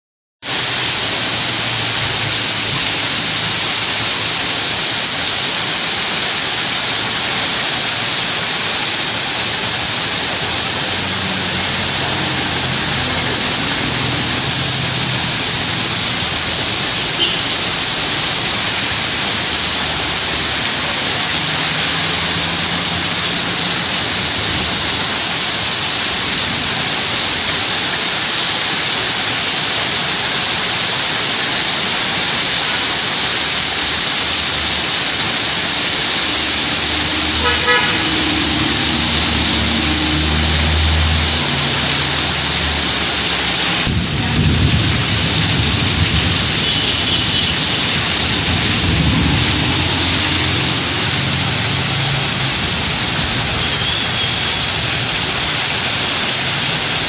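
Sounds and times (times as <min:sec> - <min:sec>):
heavy rain on a wet street: 0:00.4 - 0:57.0.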